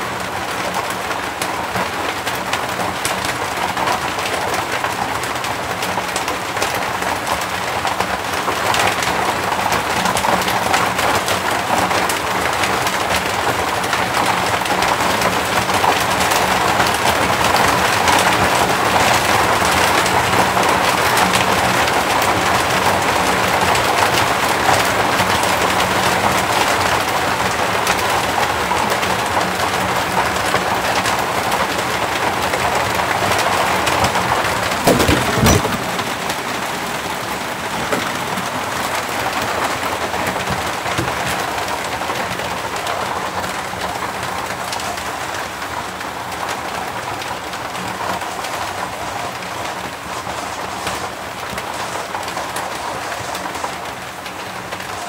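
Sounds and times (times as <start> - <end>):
rain pattering on a roof: 0.0 - 55.0.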